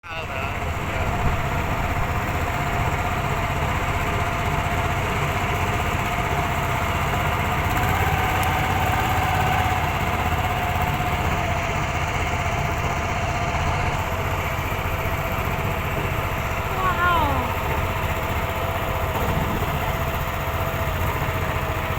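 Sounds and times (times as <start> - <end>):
small engine running: 0.1 - 21.9.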